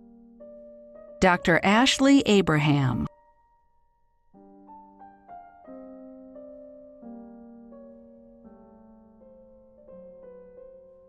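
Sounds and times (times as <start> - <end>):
soft piano music: 0.0 - 2.0, 3.0 - 11.0.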